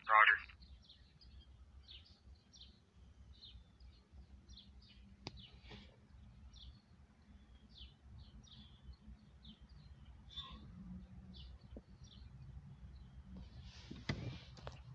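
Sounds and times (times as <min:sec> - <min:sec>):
faint bird chirps: 0:00.0 - 0:13.6.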